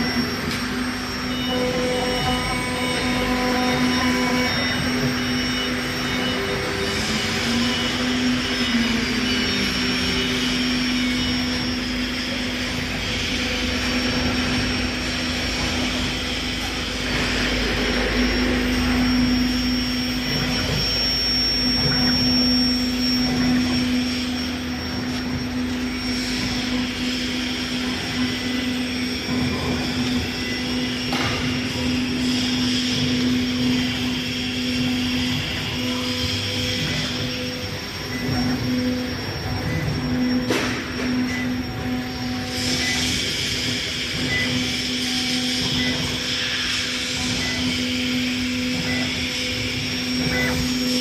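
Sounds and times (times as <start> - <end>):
router spindle tone: 0.0 - 51.0
rushing machine noise: 0.0 - 51.0.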